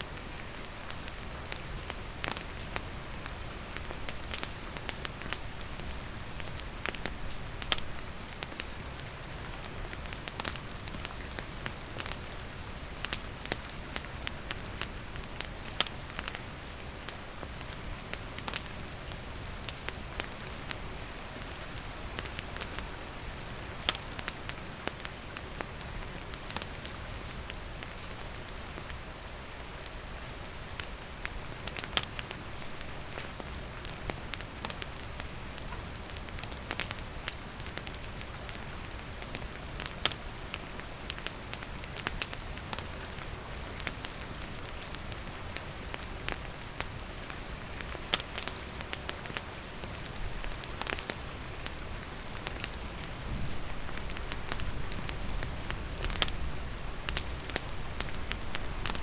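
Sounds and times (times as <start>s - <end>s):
steady rain: 0.0s - 59.0s
wood campfire crackling: 0.1s - 59.0s.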